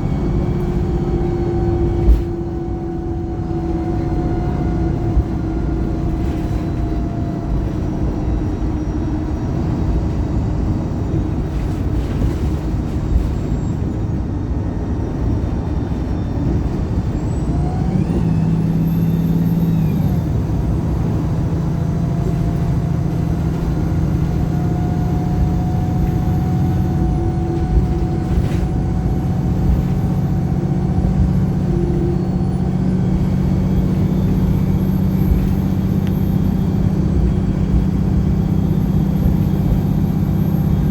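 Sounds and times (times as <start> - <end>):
bus engine droning: 0.0 - 40.9
road noise: 0.0 - 40.9.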